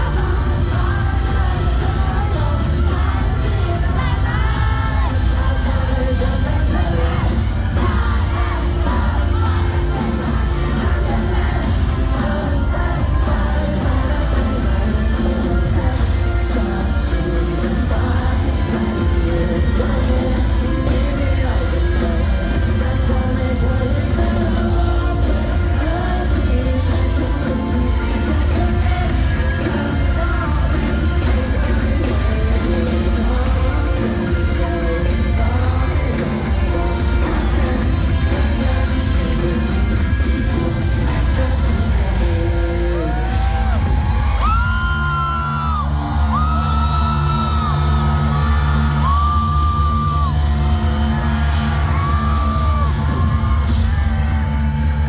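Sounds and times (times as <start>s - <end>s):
live pop-rock band with singing: 0.0s - 55.0s.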